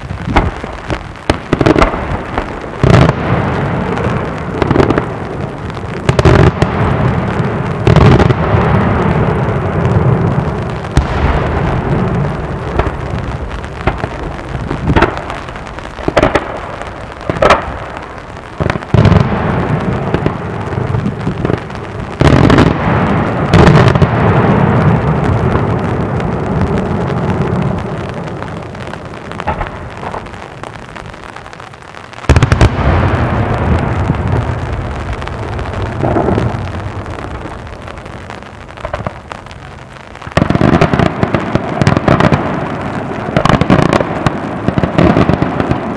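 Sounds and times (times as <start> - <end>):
firework rumble and crackle: 0.0 - 45.9
firework shells bursting: 0.0 - 45.9.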